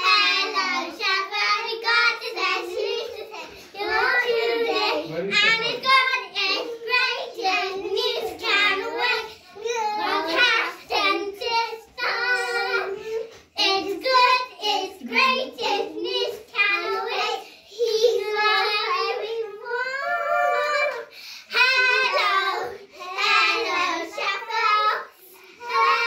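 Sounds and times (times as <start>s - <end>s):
girls singing together: 0.0s - 26.0s.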